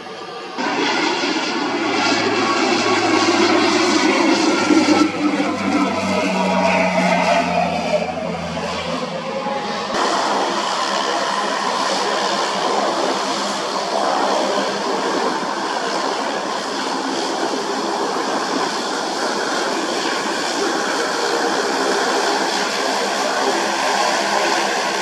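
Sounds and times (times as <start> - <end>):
turboprop engines running: 0.0 - 25.0.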